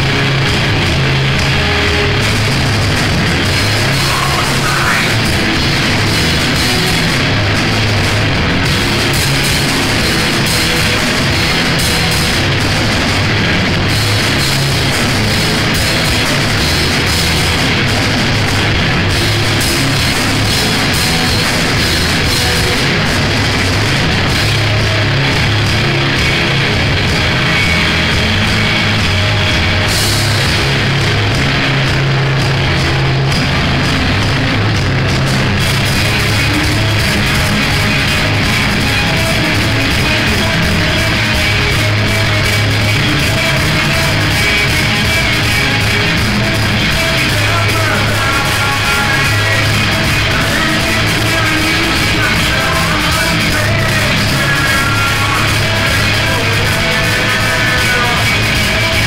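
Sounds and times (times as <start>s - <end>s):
live rock band playing loudly: 0.0s - 59.0s.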